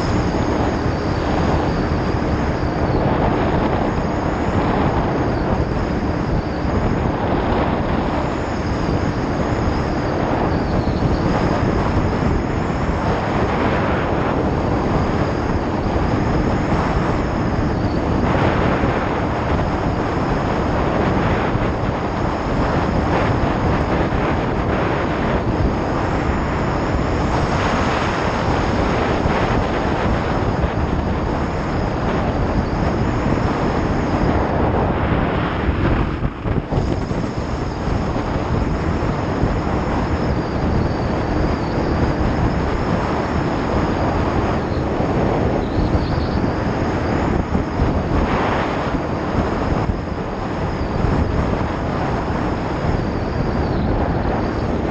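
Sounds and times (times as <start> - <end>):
wind rushing over microphone: 0.0 - 54.9.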